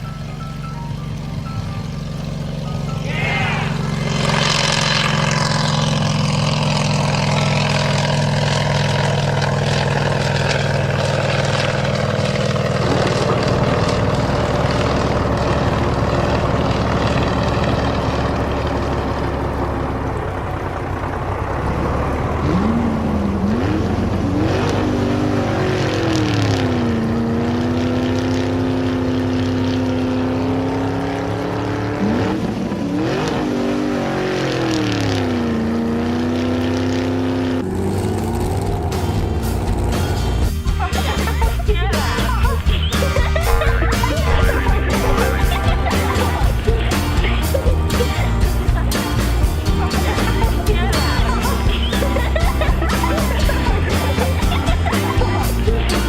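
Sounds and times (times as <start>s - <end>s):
cartoon engine drone: 0.0s - 56.0s
engines revving: 0.0s - 56.0s.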